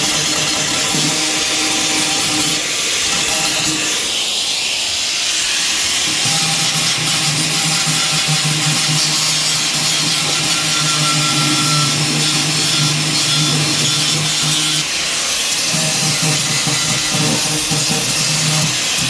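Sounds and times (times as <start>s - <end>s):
arc welding hissing crackle: 0.0s - 19.0s.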